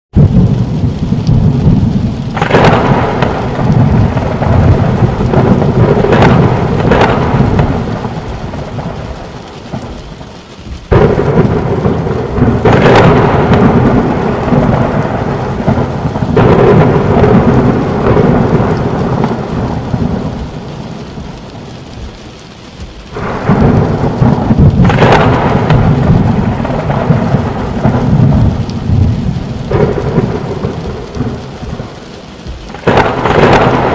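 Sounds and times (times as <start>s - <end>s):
rolling thunder: 0.1s - 33.9s
sharp thunderclaps: 0.1s - 33.9s
steady rain: 0.1s - 33.9s.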